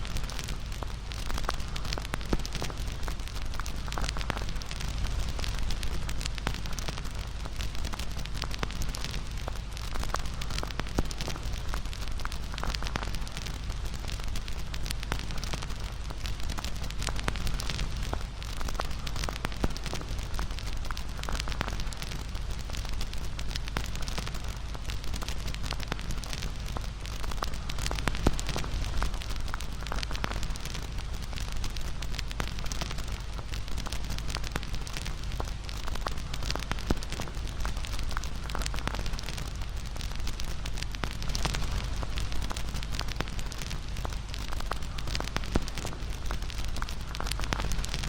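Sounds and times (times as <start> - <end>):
steady hiss: 0.0 - 48.0
wood fire crackling and popping: 0.0 - 48.0.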